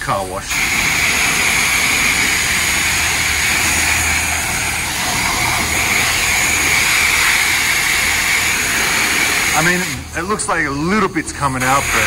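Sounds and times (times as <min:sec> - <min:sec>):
low hum: 0:00.0 - 0:11.6
pressure washer spraying water: 0:00.0 - 0:12.0.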